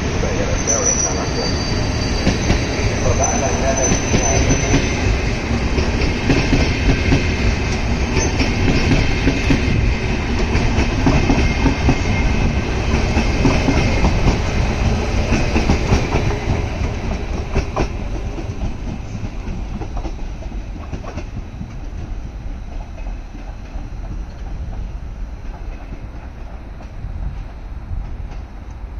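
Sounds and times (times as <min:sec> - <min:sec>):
train wheels clacking over rail joints: 0:02.2 - 0:28.5.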